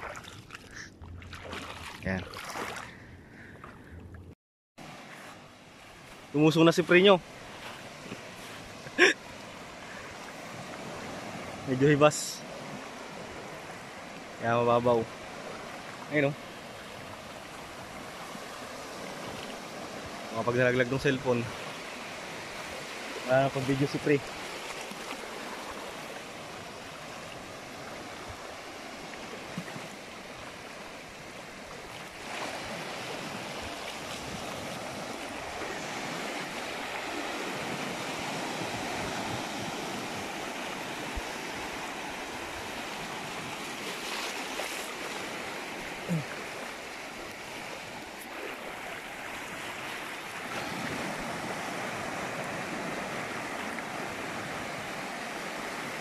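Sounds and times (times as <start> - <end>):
small waves washing on shore: 0.0 - 3.8, 4.8 - 56.0.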